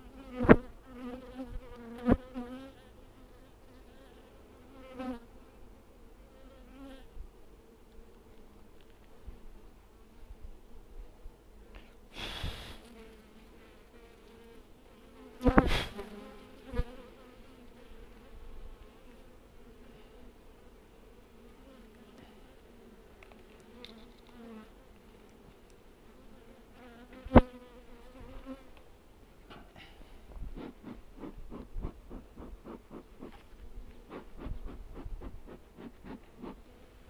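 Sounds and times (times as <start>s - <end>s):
honeybees buzzing: 0.0s - 11.6s, 12.8s - 29.6s, 30.4s - 37.0s.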